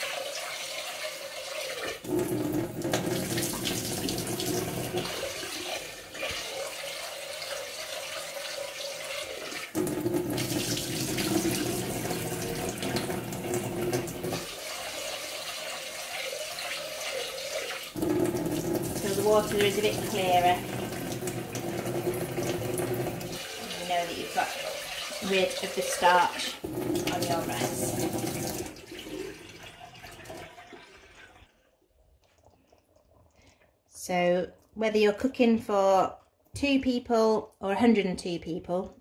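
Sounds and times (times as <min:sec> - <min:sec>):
tap water running into saucepan: 0:00.0 - 0:32.7.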